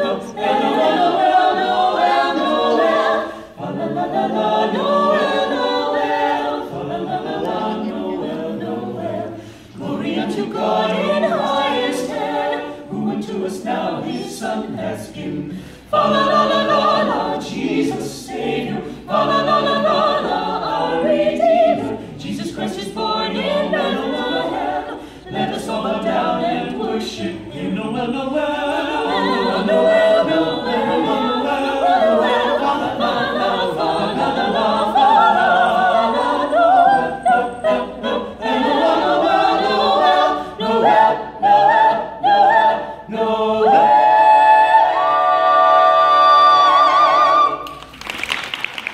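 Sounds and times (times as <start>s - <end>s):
mixed choir singing a carol: 0.0s - 47.9s.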